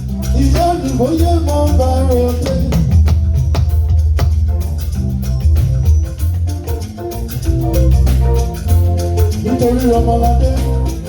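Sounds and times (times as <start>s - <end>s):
live band playing instrumental: 0.0s - 11.0s.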